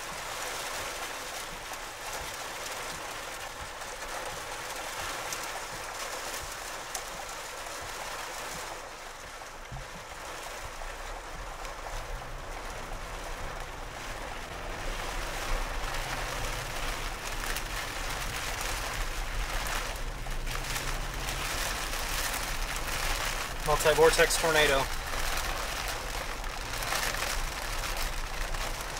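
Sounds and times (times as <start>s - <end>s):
rain hiss: 0.0s - 28.9s
wind: 0.0s - 28.9s.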